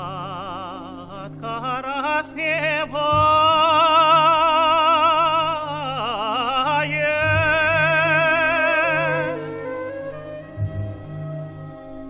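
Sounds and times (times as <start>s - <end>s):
soft orchestral accompaniment: 0.0s - 12.0s.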